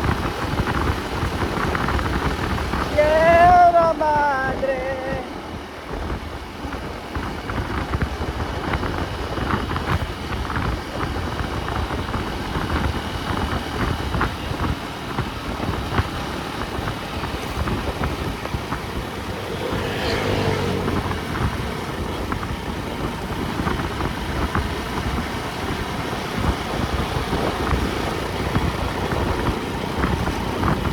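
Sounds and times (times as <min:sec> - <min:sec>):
vehicle engine and road rumble: 0:00.0 - 0:30.9.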